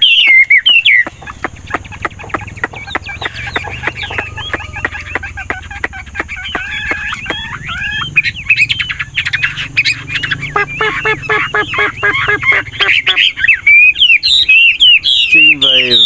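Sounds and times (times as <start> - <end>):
bird singing warbling song: 0.0 - 16.0.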